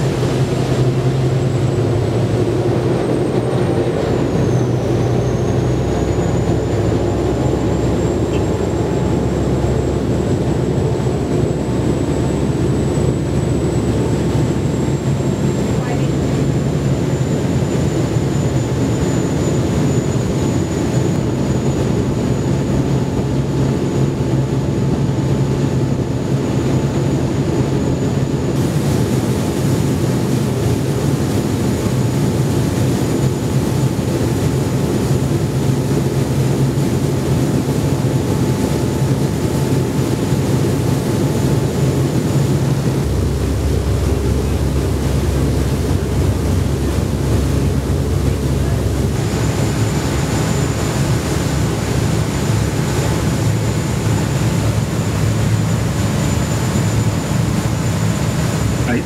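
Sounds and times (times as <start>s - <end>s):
boat engines humming: 0.0s - 59.0s
churning wake water: 0.0s - 59.0s
wind: 0.0s - 59.0s.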